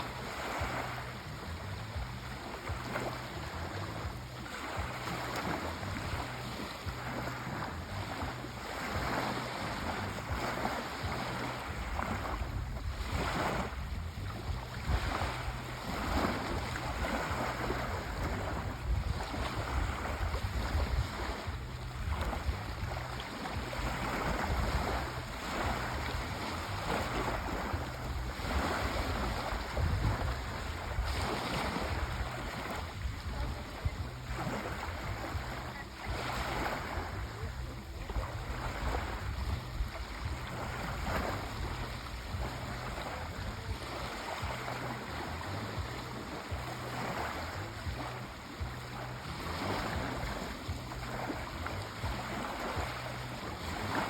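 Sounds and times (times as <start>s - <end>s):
constant low rumble: 0.0s - 54.0s
sea waves washing: 0.0s - 54.0s.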